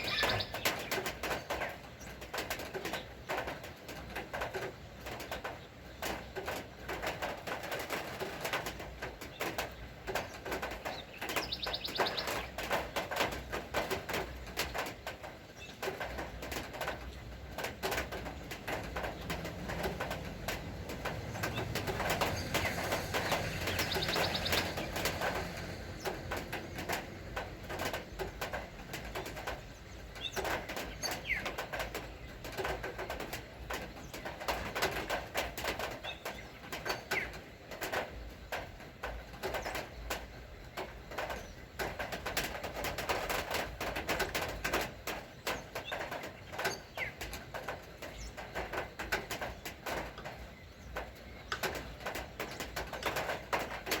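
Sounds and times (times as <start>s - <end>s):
birds calling: 0.0s - 3.7s, 4.5s - 20.2s, 20.9s - 27.0s, 27.6s - 54.0s
rain falling: 0.0s - 54.0s.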